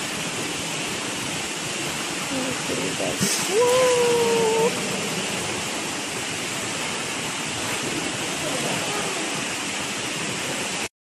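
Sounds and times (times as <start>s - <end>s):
water rushing: 0.0s - 10.9s.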